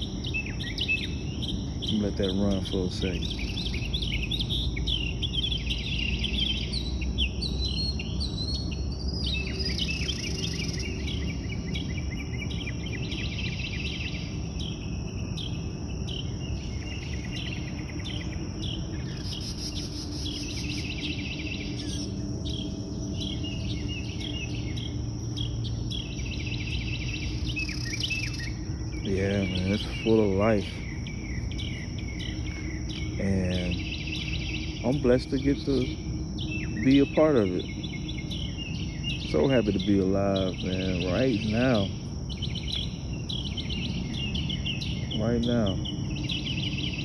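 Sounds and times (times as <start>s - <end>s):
high insect trill: 0.0s - 47.0s
low background rumble: 0.0s - 47.0s
wild birds singing and chirping: 0.0s - 47.0s.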